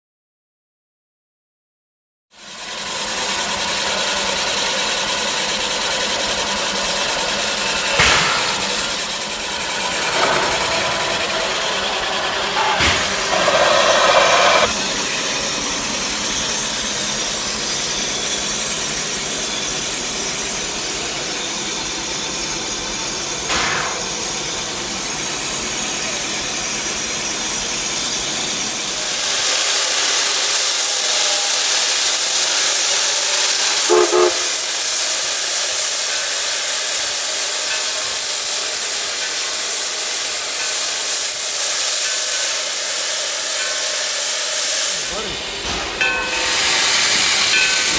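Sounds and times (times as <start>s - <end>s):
steam hissing: 2.4s - 47.9s.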